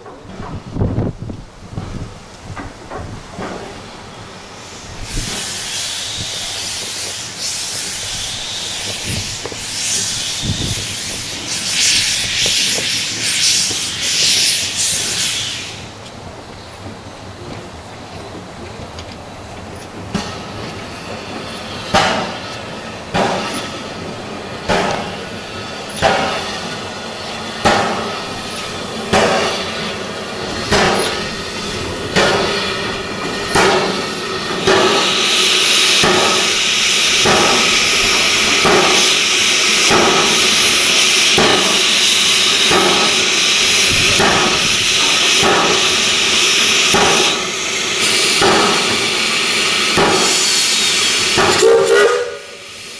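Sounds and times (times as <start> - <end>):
steam locomotive exhaust chuffs: 0.0 - 52.9
steam hissing: 1.7 - 52.9.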